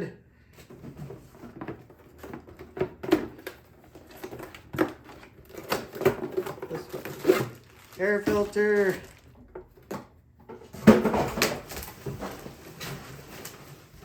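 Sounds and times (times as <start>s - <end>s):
packaging rustling: 1.4s - 9.9s, 11.1s - 14.0s.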